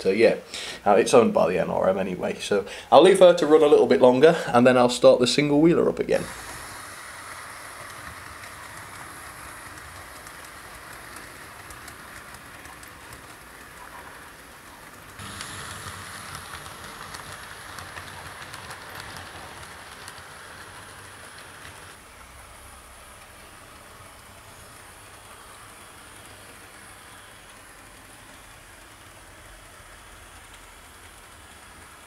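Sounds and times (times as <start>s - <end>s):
model train rolling hiss: 0.0s - 1.1s, 2.2s - 32.0s
wheels clicking over rail joints: 6.1s - 32.0s.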